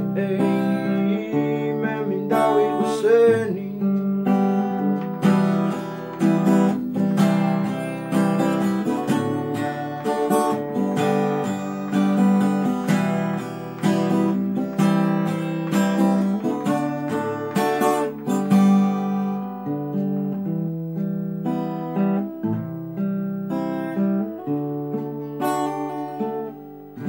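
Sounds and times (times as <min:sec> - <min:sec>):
classical guitar strumming chords: 0:00.0 - 0:27.0.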